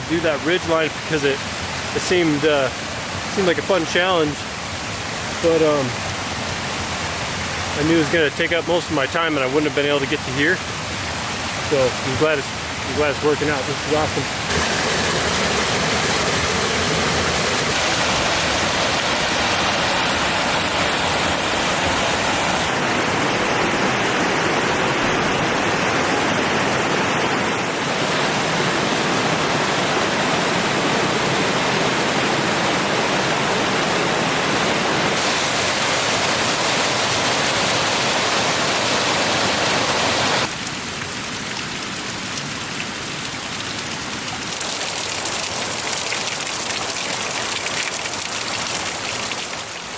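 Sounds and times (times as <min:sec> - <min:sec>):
mountain stream rushing: 0:00.0 - 0:40.6, 0:43.4 - 0:49.9.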